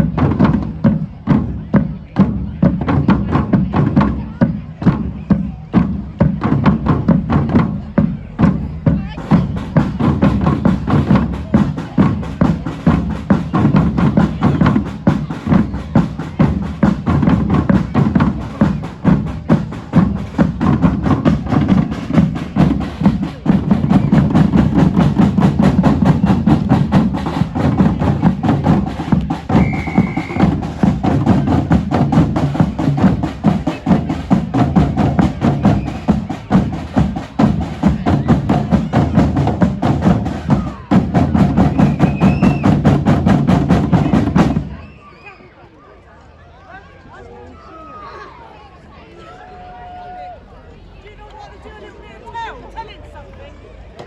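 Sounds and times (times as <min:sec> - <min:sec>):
drum band playing: 0:00.0 - 0:44.9.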